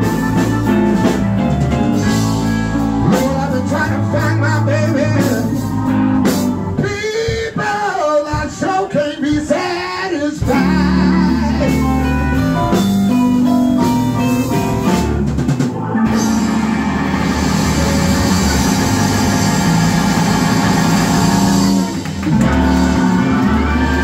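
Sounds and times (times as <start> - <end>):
distorted electric lead guitar: 0.0 - 6.9, 10.4 - 24.0
bass guitar: 0.0 - 24.0
drums: 0.0 - 24.0.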